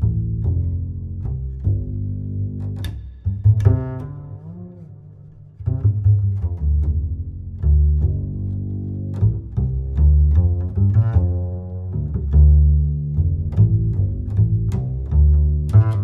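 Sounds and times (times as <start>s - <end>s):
plucked strings music: 0.0s - 16.0s
strong bass line: 0.0s - 16.0s.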